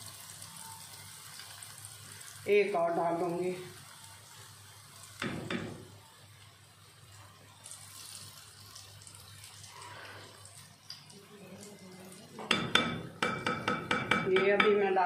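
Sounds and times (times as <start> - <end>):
batter sizzling in hot oil: 0.0 - 15.0.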